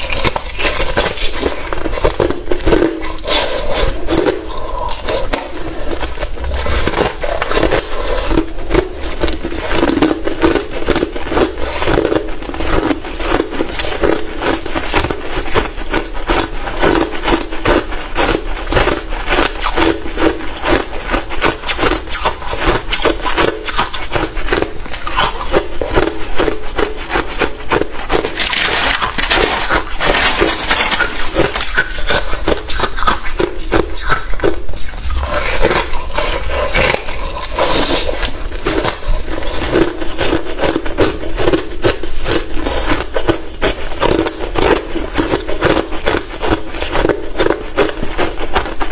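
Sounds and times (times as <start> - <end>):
chewing crunchy ice: 0.0 - 48.9.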